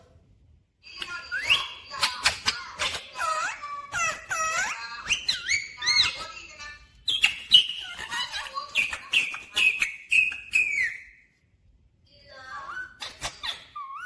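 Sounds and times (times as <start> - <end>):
parakeet calling: 1.0 - 11.2, 12.6 - 14.0.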